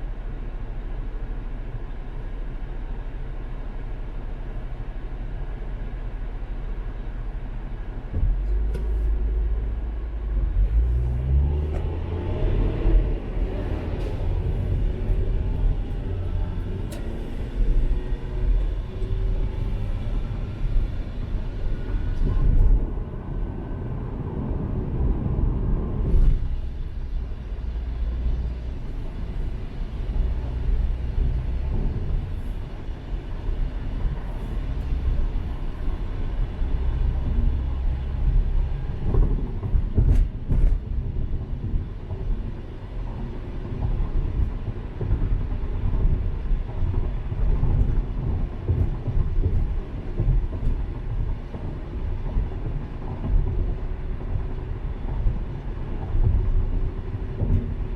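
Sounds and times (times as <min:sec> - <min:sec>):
car interior road rumble: 0:00.0 - 0:57.9.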